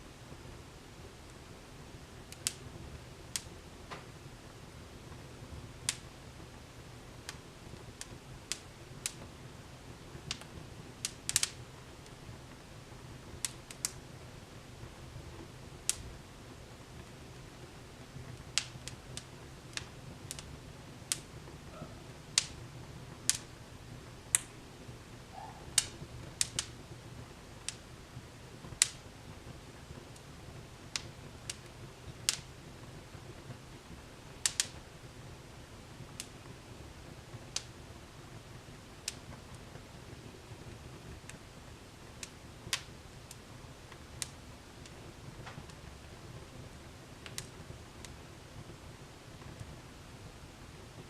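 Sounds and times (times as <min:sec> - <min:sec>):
steady low hum: 0:00.0 - 0:51.0
wood fire crackling and popping: 0:00.1 - 0:51.0.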